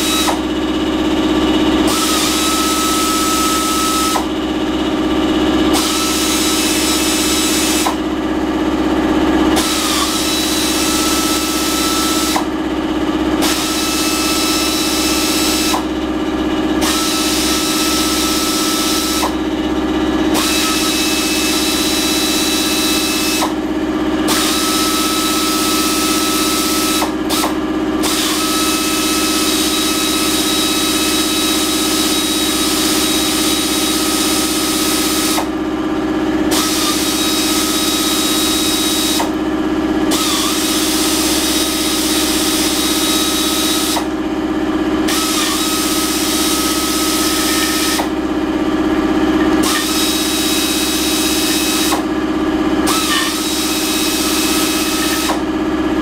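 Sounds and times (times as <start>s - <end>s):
pneumatic ratchet wrench running: 0.0s - 56.0s.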